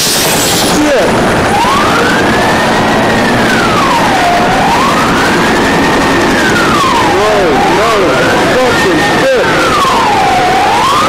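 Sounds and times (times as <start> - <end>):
steady rush of noise: 0.0 - 11.0
emergency siren wailing: 0.2 - 11.0.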